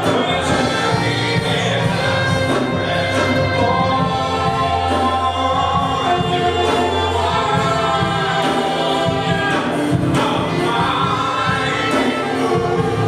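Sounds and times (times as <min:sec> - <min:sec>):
gospel choir singing: 0:00.0 - 0:13.0.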